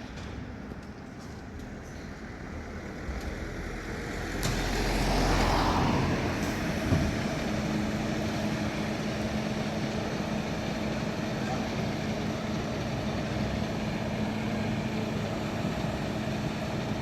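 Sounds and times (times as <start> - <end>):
diesel engine pulling away: 2.2 - 17.0.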